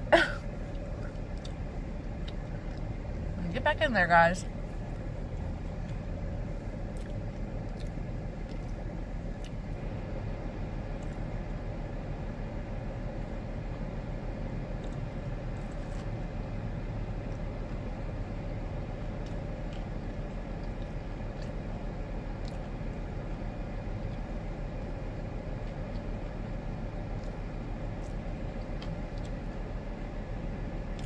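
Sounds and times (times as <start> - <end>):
car idling: 0.0 - 31.0.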